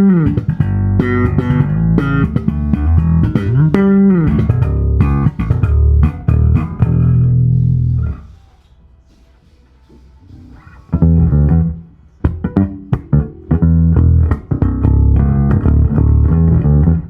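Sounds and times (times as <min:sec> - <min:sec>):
electric bass plucked notes: 0:00.0 - 0:08.2, 0:10.9 - 0:17.0.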